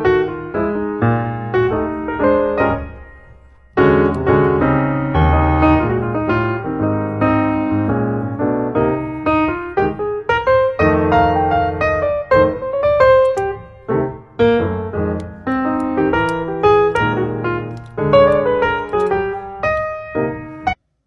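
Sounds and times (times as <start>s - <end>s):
gentle piano music: 0.0s - 20.8s.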